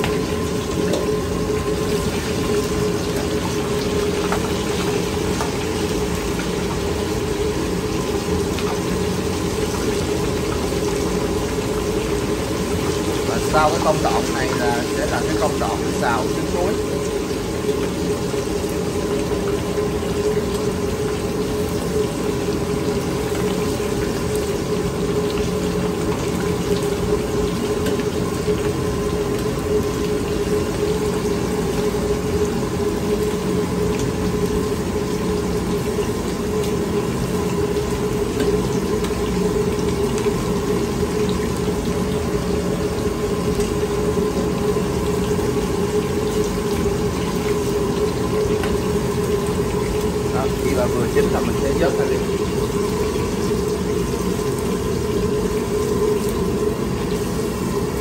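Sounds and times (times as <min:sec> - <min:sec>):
food sizzling in hot oil: 0:00.0 - 0:58.0
gas burner roaring: 0:00.0 - 0:58.0.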